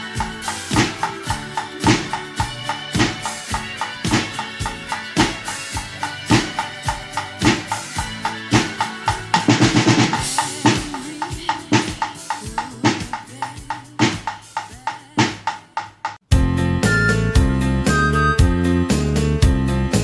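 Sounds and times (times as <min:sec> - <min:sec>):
drum roll: 0:00.0 - 0:16.6
percussion ensemble with drum kit: 0:00.0 - 0:20.0.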